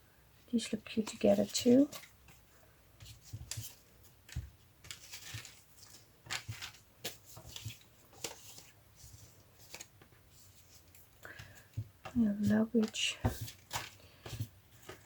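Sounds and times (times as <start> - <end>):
paper rustling: 0.9 - 15.0.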